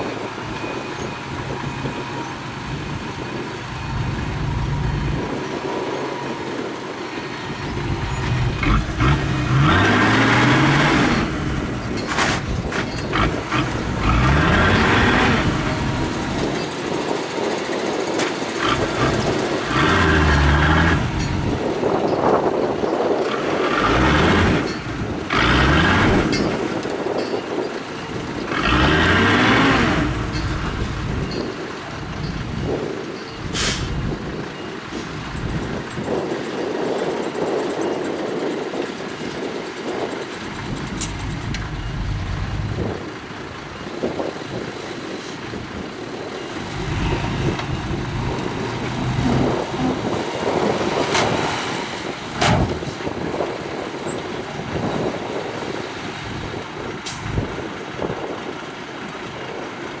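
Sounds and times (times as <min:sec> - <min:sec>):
diesel truck engine running: 0:00.0 - 1:00.0.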